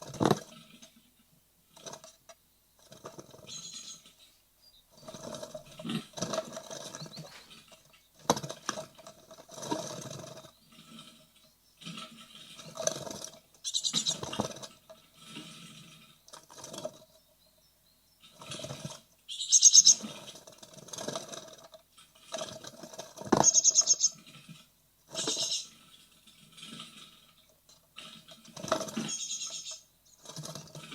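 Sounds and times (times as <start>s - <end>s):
nestlings scrabbling and fluttering: 0.0s - 30.9s.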